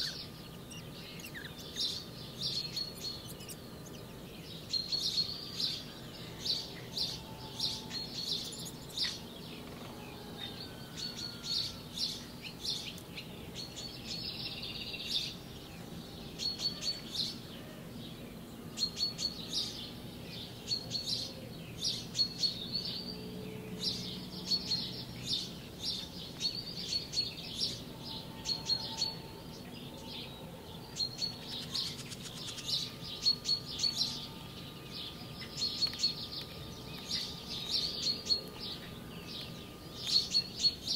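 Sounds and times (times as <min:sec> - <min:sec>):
faint low hum: 0:00.0 - 0:40.9
small birds chirping: 0:00.0 - 0:40.9.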